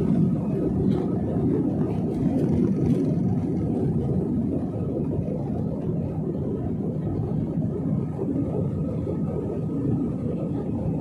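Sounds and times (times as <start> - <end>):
jet airliner cabin rumble on takeoff: 0.0 - 11.0.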